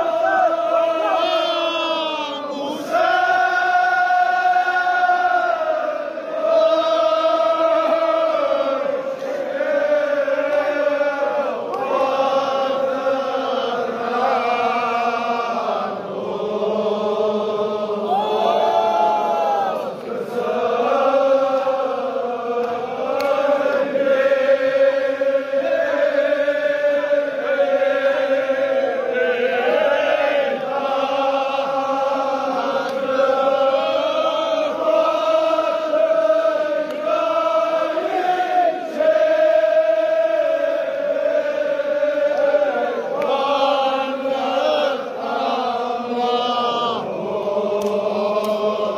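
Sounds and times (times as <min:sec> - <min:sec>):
crowd of men chanting: 0:00.0 - 0:48.9.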